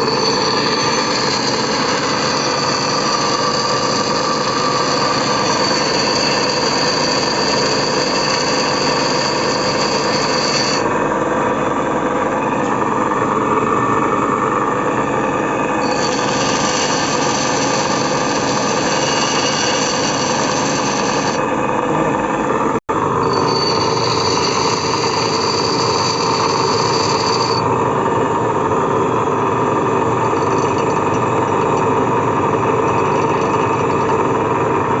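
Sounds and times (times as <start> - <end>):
high whine: 0.0 - 35.0
power tool running: 0.0 - 35.0.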